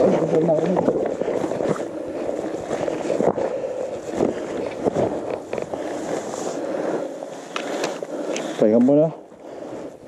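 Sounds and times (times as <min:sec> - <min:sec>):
wind on microphone: 0:00.0 - 0:08.6
bike tyres rolling on gravel: 0:00.0 - 0:10.0.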